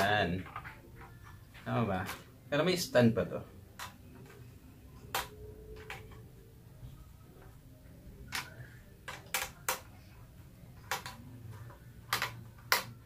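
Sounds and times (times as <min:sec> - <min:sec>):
plastic parts clicking and knocking: 0:00.0 - 0:02.4, 0:03.6 - 0:06.4, 0:07.4 - 0:13.0.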